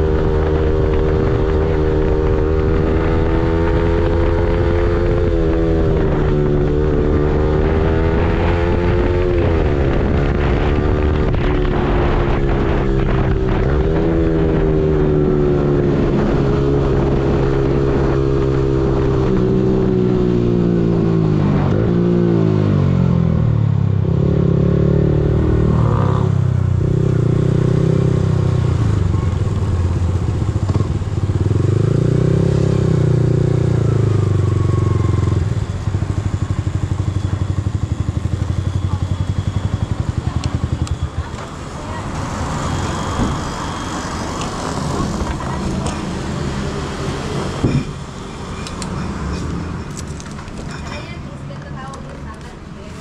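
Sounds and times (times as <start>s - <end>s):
motorcycle engine revving and idling: 0.0s - 53.0s.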